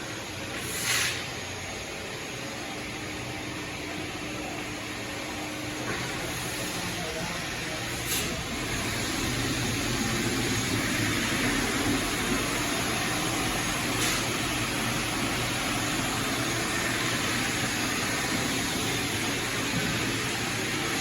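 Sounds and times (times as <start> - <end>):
floor grinding machines running: 0.0 - 21.0.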